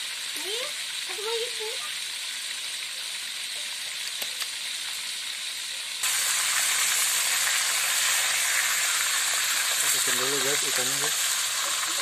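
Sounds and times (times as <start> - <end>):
fish frying in hot oil: 0.0 - 12.0
spatula working in oil: 0.3 - 12.0.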